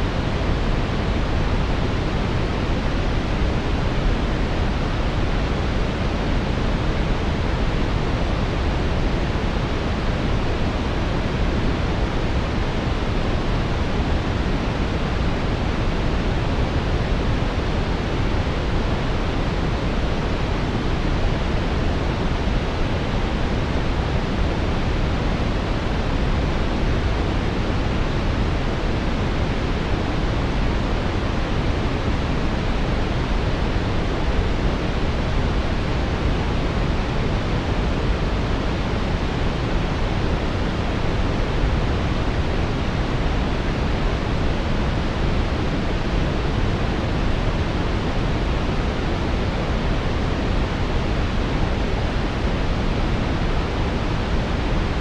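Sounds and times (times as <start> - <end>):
brown noise rumble: 0.0 - 55.0.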